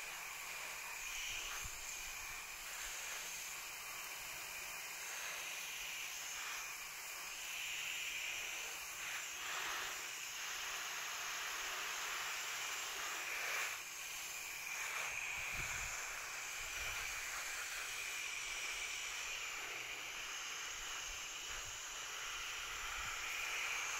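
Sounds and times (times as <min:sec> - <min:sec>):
hose spray on leaves: 0:00.0 - 0:23.9.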